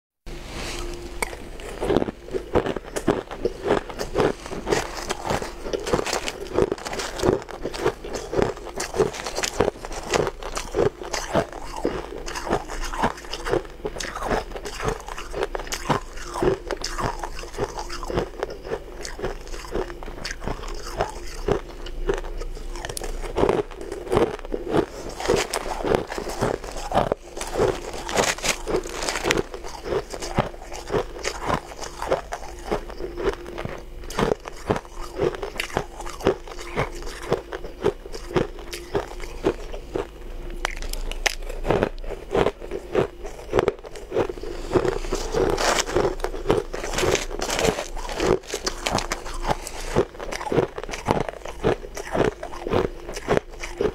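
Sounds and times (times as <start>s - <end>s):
ice crunching while chewed: 0.6s - 53.9s.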